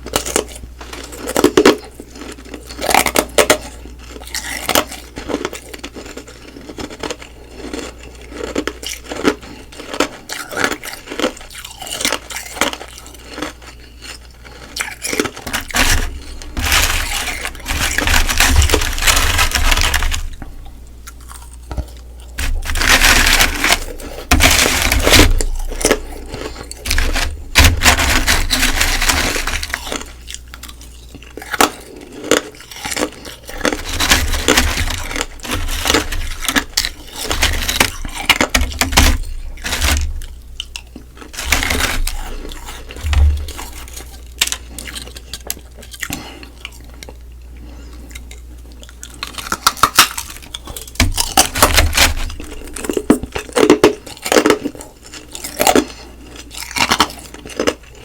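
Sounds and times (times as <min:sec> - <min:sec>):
chewing ice crunching: 0:00.0 - 0:58.0.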